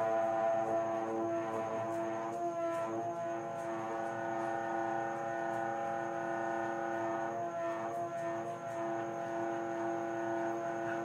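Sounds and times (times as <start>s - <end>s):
water tank droning hum: 0.0s - 11.0s.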